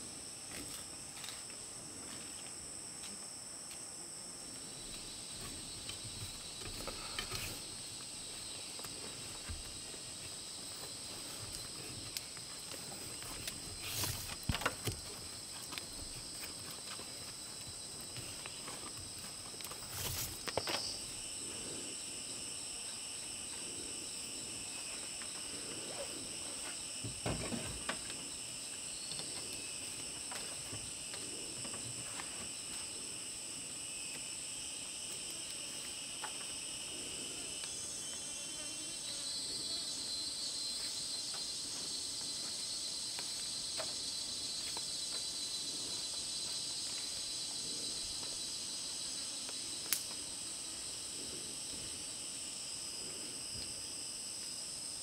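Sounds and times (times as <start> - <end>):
insect pulsing buzz: 0.0 - 55.0
insects buzzing: 0.0 - 55.0.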